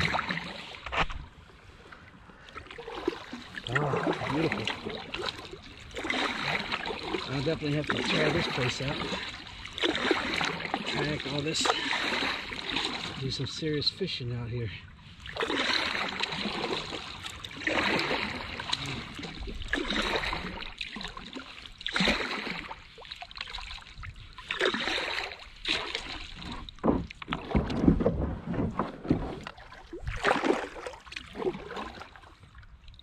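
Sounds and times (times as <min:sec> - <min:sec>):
paddle splashing through water: 0:00.0 - 0:13.6, 0:15.1 - 0:33.0
water running off paddle: 0:00.0 - 0:13.6, 0:15.2 - 0:32.7.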